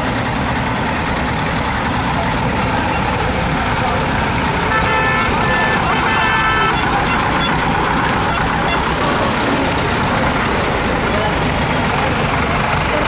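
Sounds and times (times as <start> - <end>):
people's voices: 0.0 - 13.0
tractor engines running: 0.0 - 13.0.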